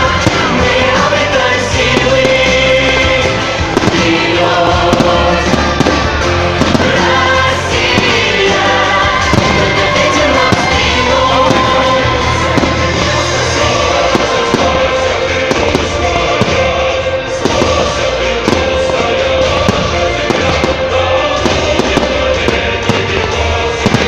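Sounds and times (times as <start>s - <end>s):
fireworks bursting and crackling: 0.0s - 24.0s
loud music: 0.0s - 24.0s.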